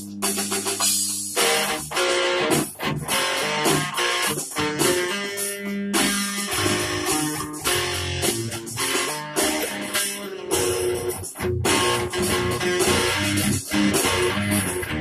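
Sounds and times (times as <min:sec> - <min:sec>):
fingerstyle guitar: 0:00.0 - 0:15.0.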